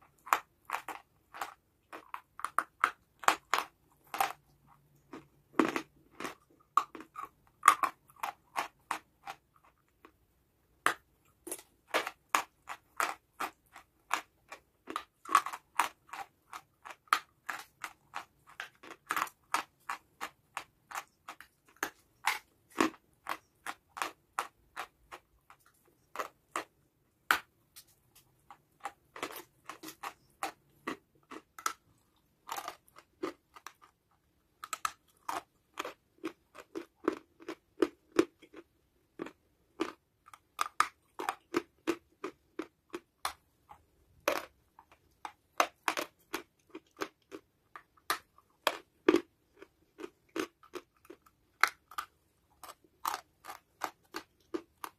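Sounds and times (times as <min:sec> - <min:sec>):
chewing hard clay crunches: 0:00.0 - 0:54.9.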